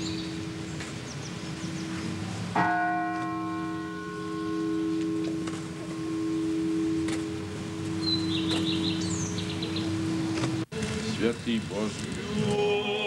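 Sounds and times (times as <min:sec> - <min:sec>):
steady low hum: 0:00.0 - 0:02.6, 0:03.8 - 0:13.0
church bell ringing: 0:00.0 - 0:10.6.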